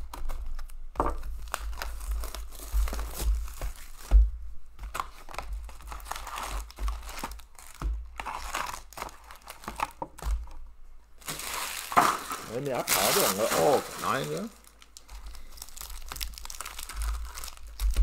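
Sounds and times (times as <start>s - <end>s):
foil card packs rustling: 0.0s - 4.1s, 4.8s - 10.5s, 11.2s - 18.0s
shrink wrap crinkling and tearing: 0.0s - 4.2s, 4.8s - 10.6s, 11.2s - 18.0s.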